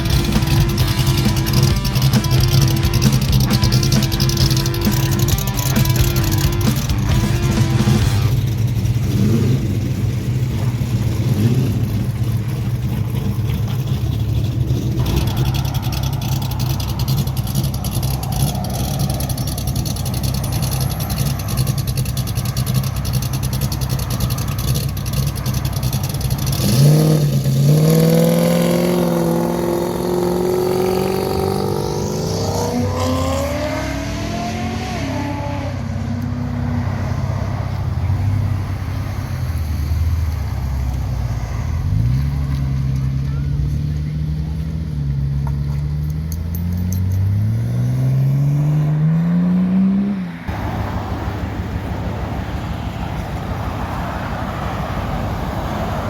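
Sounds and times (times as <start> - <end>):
car engine idling: 0.0 - 32.2, 35.8 - 47.6, 50.4 - 56.0
car revving and accelerating: 0.0 - 56.0.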